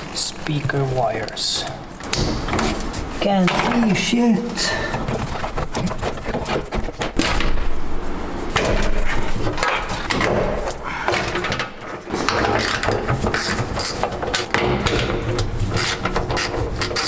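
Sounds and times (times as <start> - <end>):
car parts clattering and knocking: 2.0 - 17.0.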